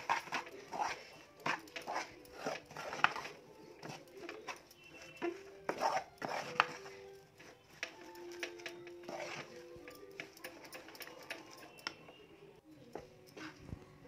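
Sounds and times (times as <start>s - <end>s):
metal spoon scraping a metal pan: 0.0s - 12.2s.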